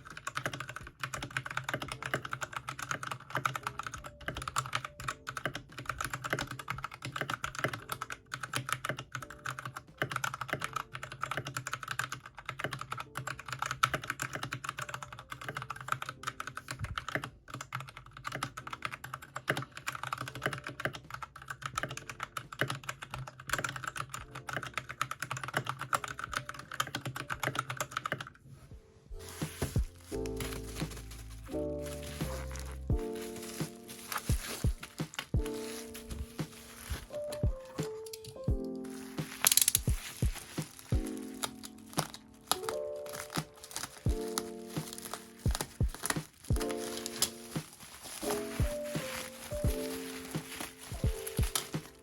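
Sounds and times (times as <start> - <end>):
mechanical keyboard typing: 0.0 - 28.4, 29.6 - 52.0
background music: 0.0 - 52.0.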